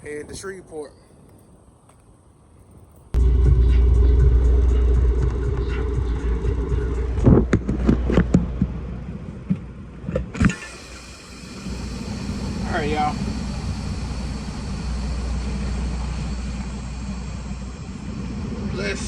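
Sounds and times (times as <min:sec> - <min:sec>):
vehicle engine rumbling: 0:03.2 - 0:19.0.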